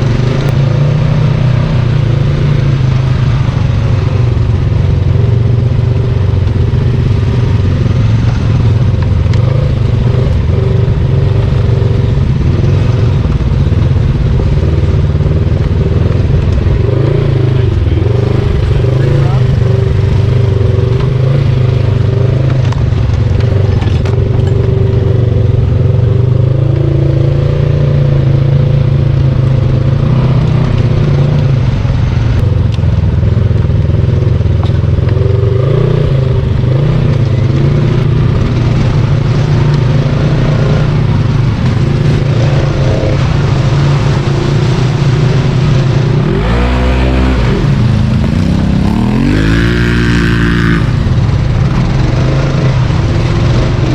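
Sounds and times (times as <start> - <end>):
vehicle engine running and revving: 0.0 - 53.9.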